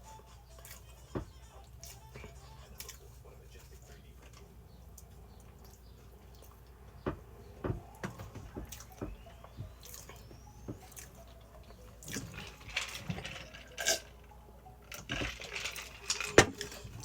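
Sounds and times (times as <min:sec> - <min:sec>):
wet chewing: 0:00.0 - 0:17.0.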